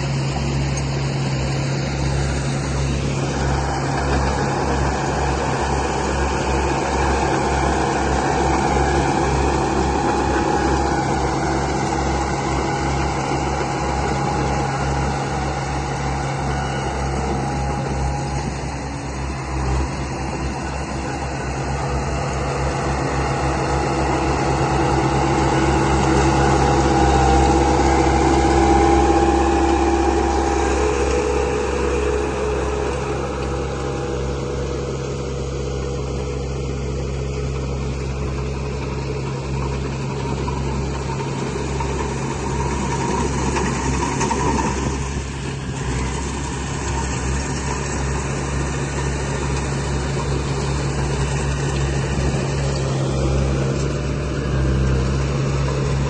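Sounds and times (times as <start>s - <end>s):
engine-like hum with low throbbing: 0.0s - 56.0s.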